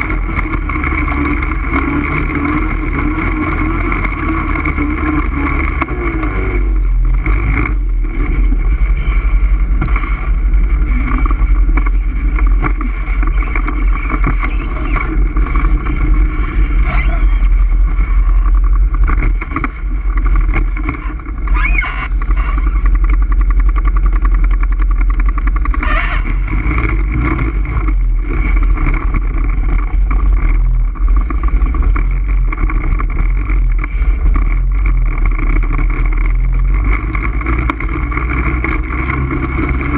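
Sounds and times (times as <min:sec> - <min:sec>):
atv engine low rumble: 0:00.0 - 0:39.9.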